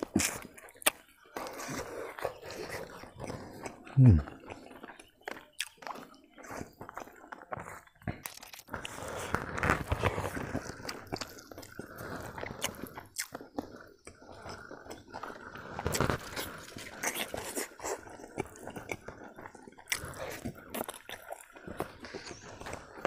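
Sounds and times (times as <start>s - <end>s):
person chewing and crunching: 0.0s - 23.0s.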